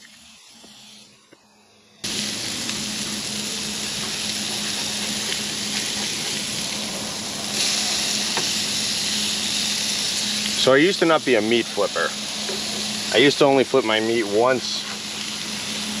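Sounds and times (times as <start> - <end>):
hamburger patties sizzling: 2.0 - 16.0.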